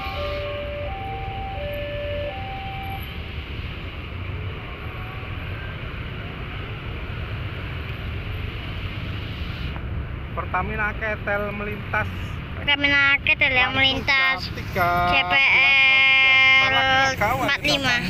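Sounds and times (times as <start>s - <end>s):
motorcycle engines: 0.0s - 18.0s.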